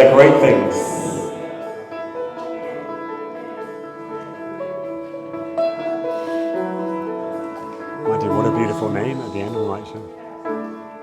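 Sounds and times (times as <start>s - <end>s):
soft instrumental music: 0.4s - 11.0s.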